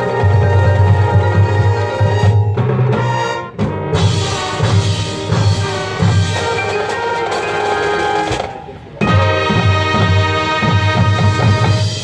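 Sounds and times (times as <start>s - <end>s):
band wind chords: 0.0s - 12.0s
drums and percussion: 0.0s - 12.0s.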